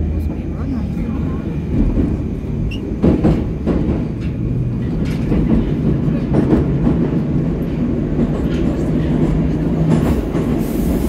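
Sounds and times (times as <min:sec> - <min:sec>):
train rumbling through tunnel: 0:00.0 - 0:11.0.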